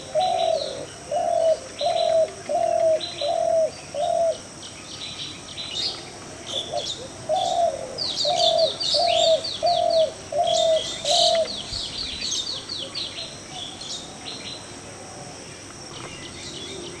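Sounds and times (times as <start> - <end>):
birds chirping and twittering: 0.0 - 14.8, 15.4 - 17.0
bird low hooting: 0.0 - 17.0.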